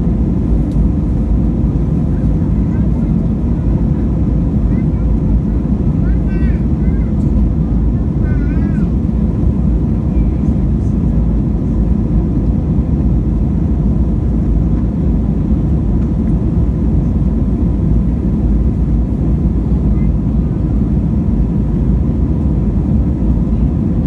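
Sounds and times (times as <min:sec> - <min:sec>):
jet engine rumble in cabin: 0:00.0 - 0:24.0.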